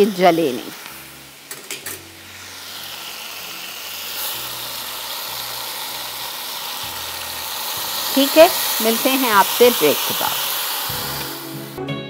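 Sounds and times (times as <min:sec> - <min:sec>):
marinade sizzling in hot oil: 0:00.0 - 0:11.8.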